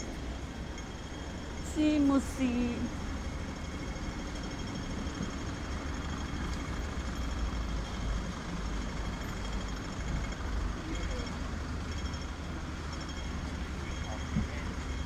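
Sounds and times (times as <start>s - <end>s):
vehicle engines rumble: 0.0s - 15.0s.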